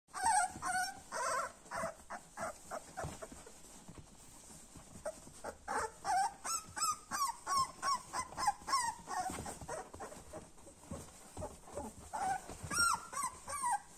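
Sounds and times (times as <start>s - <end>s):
puppies whimpering and squeaking: 0.1s - 13.9s.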